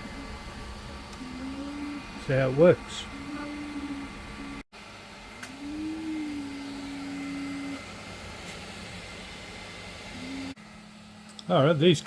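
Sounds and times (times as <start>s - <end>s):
stepper motors whining: 0.0s - 4.6s, 5.4s - 10.6s
steady hum: 0.0s - 12.0s.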